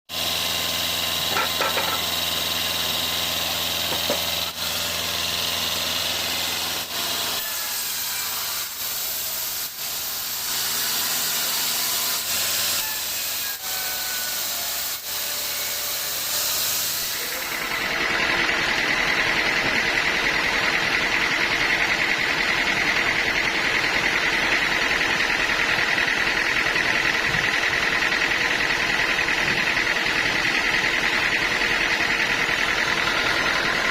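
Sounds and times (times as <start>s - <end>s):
high machine whine: 0.1s - 33.9s
sawmill machinery running: 0.1s - 33.9s.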